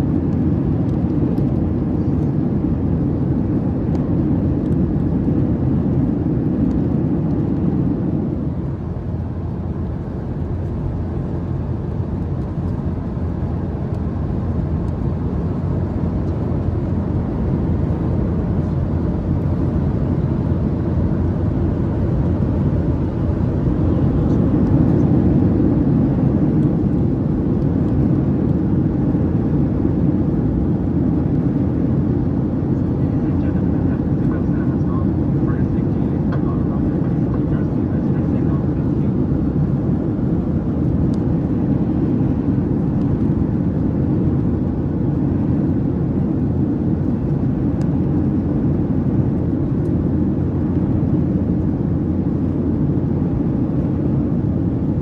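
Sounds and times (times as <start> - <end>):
airplane cabin engine rush: 0.0 - 55.0.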